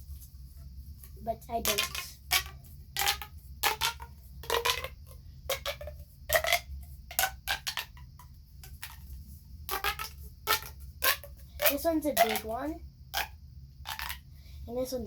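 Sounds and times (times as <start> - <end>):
plastic pop tubes clicking: 1.6 - 14.2.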